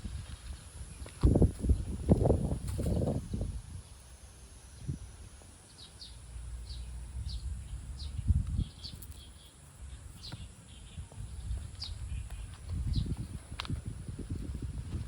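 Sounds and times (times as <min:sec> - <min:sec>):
small bird chirping: 0:00.3 - 0:14.8.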